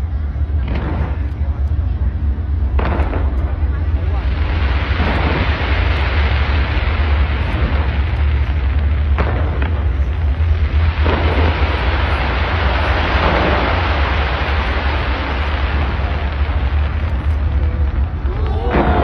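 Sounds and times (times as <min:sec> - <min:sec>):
fireworks crackling: 0:00.0 - 0:19.0
fireworks bangs: 0:00.1 - 0:19.0.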